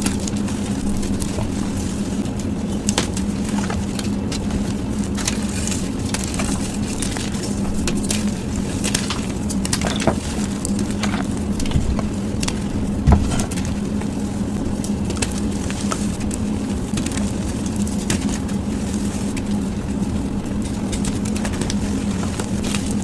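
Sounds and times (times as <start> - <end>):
chalk crackling and crunching: 0.0 - 23.0
low hum: 0.0 - 23.0.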